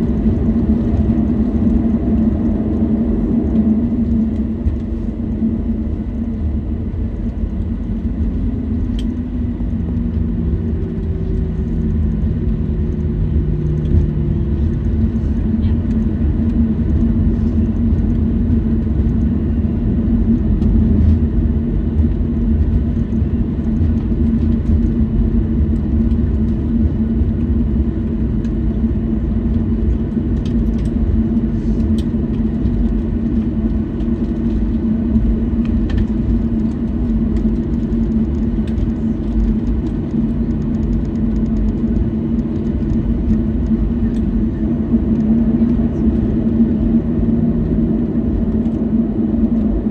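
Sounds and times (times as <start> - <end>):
jet engines idling in cabin: 0.0 - 49.9.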